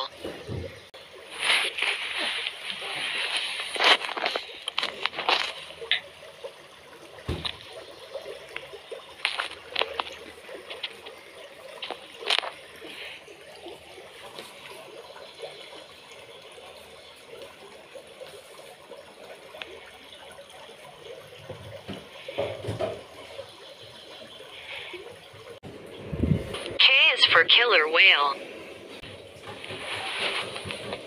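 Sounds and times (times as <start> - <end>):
aquarium water trickling: 0.0 - 27.7, 28.3 - 31.0.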